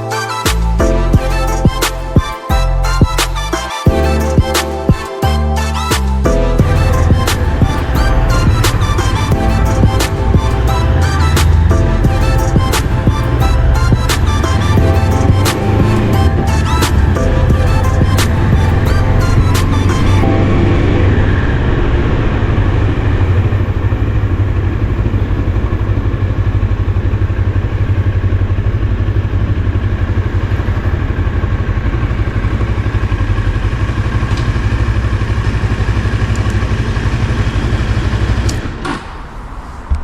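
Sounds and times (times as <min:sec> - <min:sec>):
motorcycle engine running: 0:06.5 - 0:38.8.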